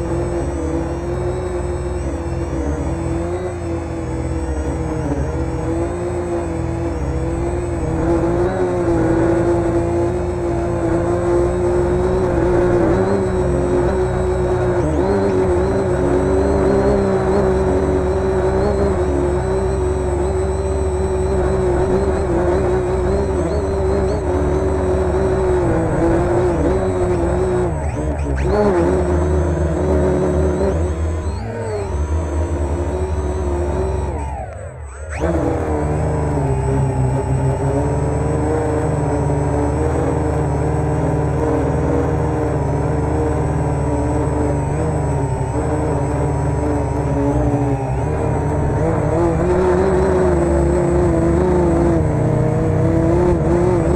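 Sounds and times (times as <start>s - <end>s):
quadcopter motors whining: 0.0s - 53.9s.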